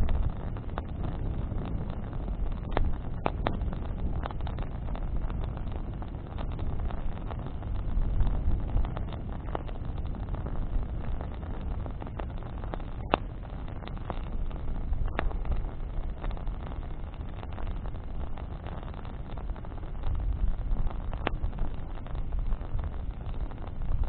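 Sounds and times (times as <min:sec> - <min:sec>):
campfire crackling: 0:00.0 - 0:24.0
fire popping: 0:00.0 - 0:24.0
steady low rumble: 0:00.0 - 0:24.0.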